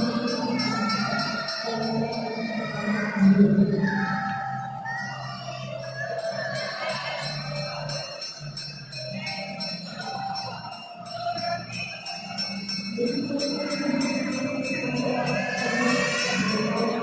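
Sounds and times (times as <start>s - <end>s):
music with jingle bells: 0.0s - 17.0s.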